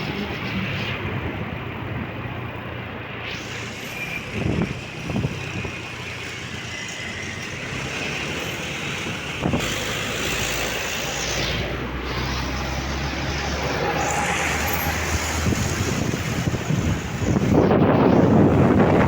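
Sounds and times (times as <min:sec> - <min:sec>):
road noise: 0:00.0 - 0:19.0
truck engine: 0:00.0 - 0:19.0.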